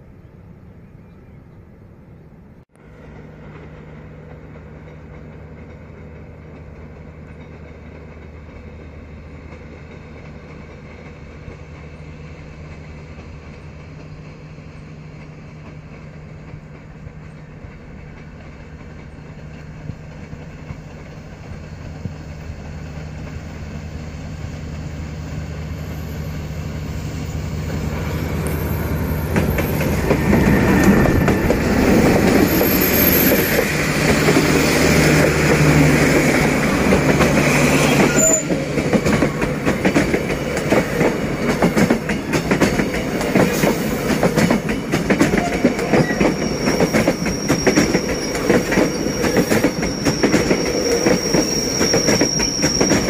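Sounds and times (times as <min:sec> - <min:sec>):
rush of train: 0:00.0 - 0:53.0
locomotive engine running: 0:02.8 - 0:53.0
train wheels clicking on rail joints: 0:02.9 - 0:53.0.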